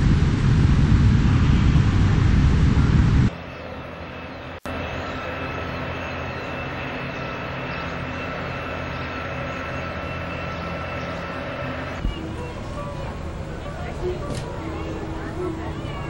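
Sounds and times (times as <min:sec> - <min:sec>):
faint high whine: 0:00.0 - 0:16.0
ship engine low drone: 0:00.0 - 0:16.0.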